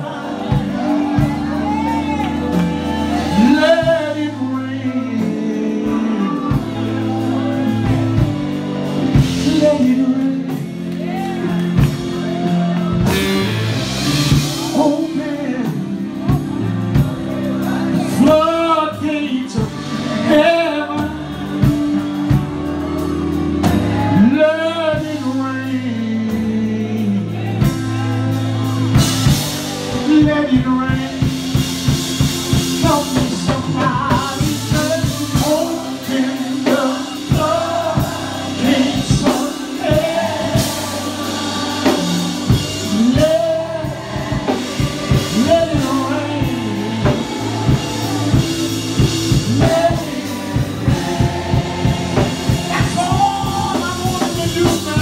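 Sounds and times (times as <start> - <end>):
drums steady beat: 0.0 - 4.5, 5.2 - 18.6, 19.5 - 55.0
band playing low chords: 0.0 - 55.0
person singing gospel: 0.0 - 55.0.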